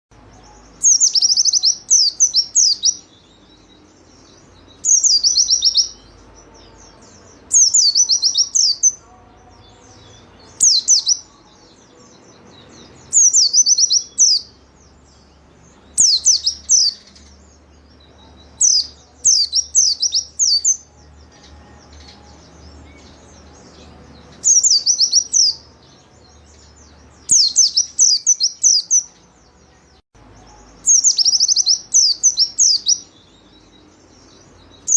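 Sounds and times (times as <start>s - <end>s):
bird singing rapid high chirps: 0.1s - 34.9s.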